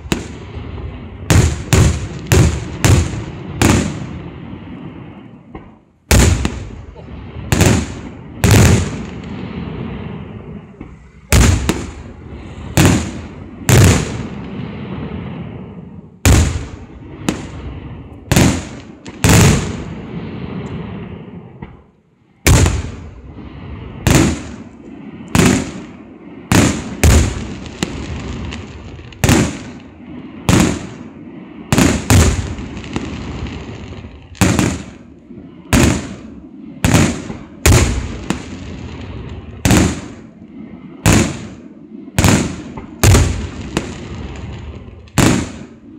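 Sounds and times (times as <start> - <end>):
fireworks bursting: 0.0 - 45.9
rumble: 0.0 - 45.9.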